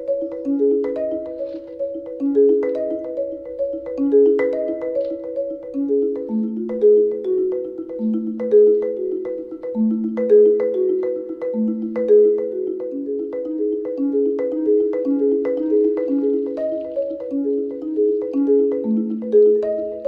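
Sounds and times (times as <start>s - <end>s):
melody of struck notes: 0.0s - 20.0s.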